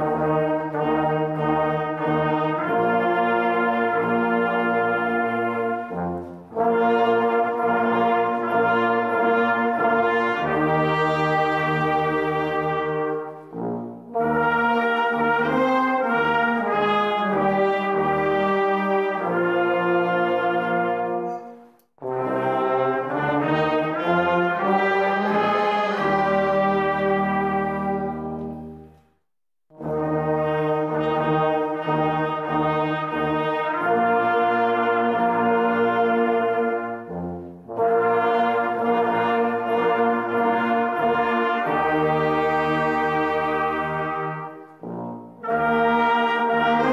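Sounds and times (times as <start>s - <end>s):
brass band playing slow chords: 0.0s - 46.9s.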